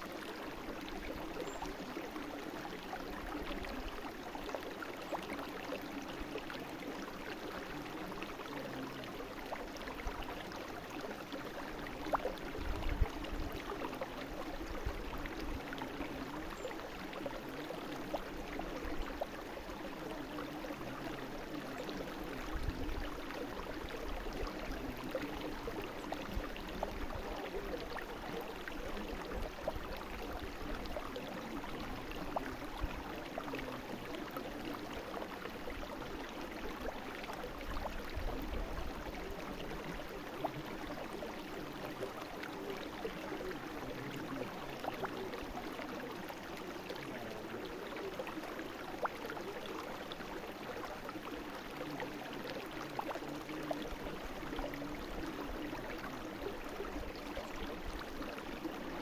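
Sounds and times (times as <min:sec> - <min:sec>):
brook flowing: 0:00.0 - 0:59.0.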